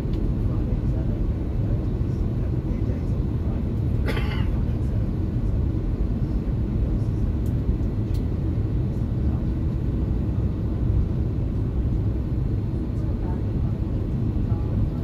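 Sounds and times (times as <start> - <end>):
airliner cabin rumble while taxiing: 0.0 - 15.0.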